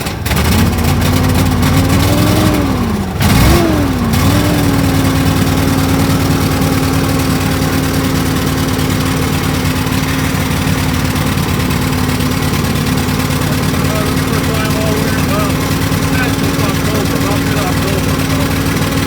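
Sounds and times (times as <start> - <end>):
atv engine idling: 0.0 - 19.0.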